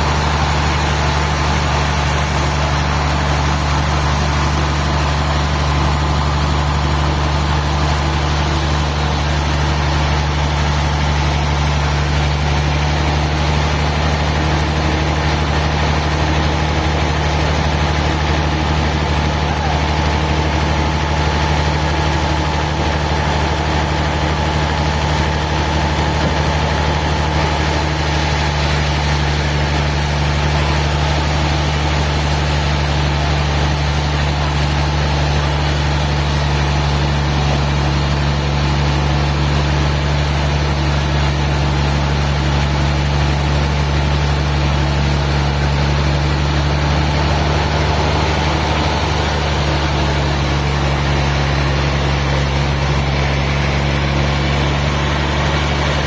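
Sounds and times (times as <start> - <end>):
large engine humming: 0.0 - 56.0.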